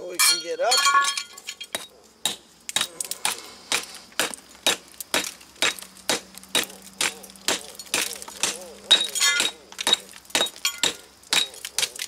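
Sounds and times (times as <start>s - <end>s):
hammer striking concrete: 1.7s - 11.9s.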